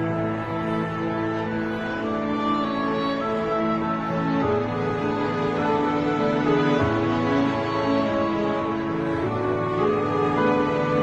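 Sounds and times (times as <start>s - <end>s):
slow sad background music: 0.0s - 11.0s.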